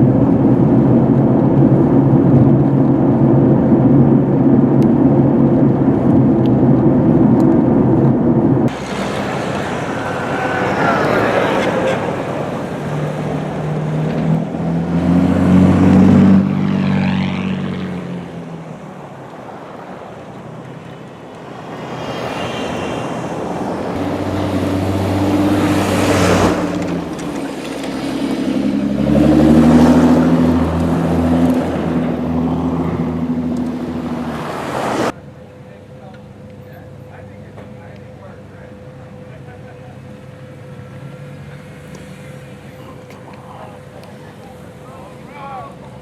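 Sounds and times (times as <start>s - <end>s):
road and wind noise: 0.0s - 46.0s
vehicle engine hum: 0.0s - 46.0s.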